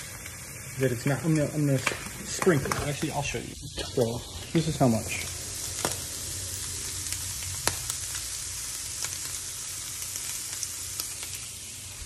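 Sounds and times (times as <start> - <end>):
sharp frying pops: 0.0 - 12.0
shrimp sizzling in a pan: 0.0 - 12.0.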